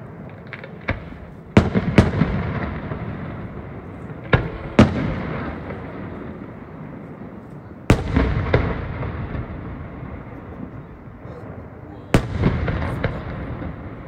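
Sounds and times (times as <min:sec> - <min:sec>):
firework shells booming: 0:00.0 - 0:14.0.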